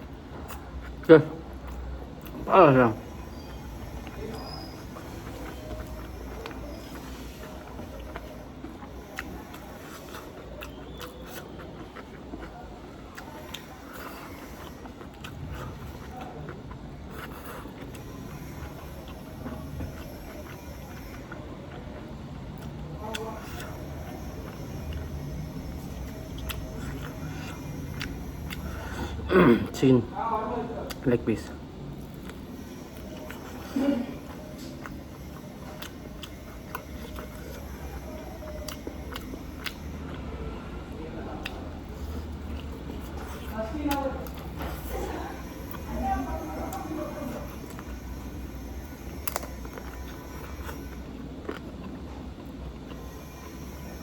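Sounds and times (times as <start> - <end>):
person chewing: 0.0 - 30.1, 30.8 - 54.0.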